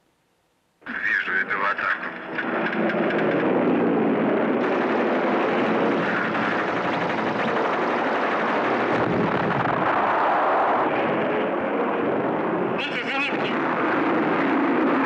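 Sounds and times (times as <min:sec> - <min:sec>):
propeller plane engine drone: 0:00.8 - 0:15.0.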